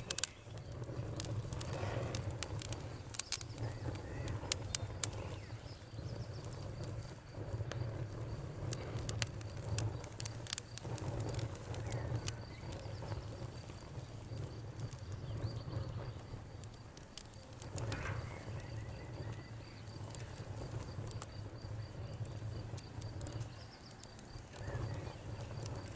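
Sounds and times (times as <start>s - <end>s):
campfire crackling and popping: 0.0s - 25.9s
crickets chirping: 0.0s - 25.9s
low fire rumble: 0.0s - 25.9s.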